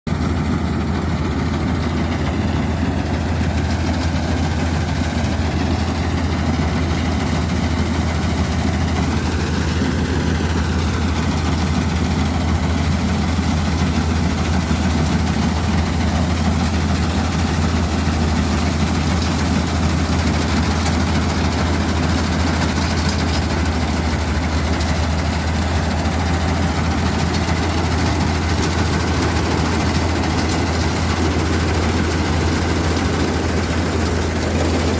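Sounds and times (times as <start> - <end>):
diesel engine hum: 0.1 - 34.9
threshing machinery noise: 0.1 - 34.9.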